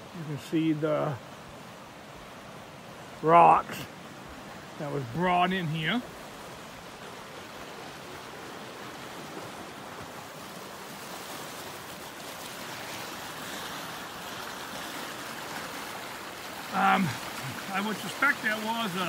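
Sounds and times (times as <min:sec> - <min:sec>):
small stream flowing: 0:00.0 - 0:19.0.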